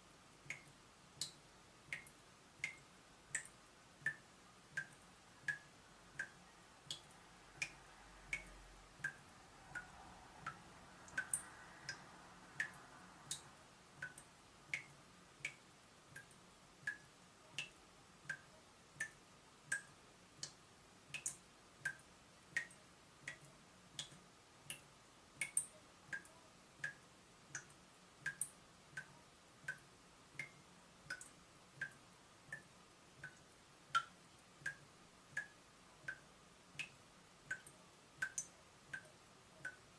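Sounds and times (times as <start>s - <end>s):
water drops dripping from tap: 0.4s - 4.2s, 4.8s - 12.0s, 12.6s - 39.9s.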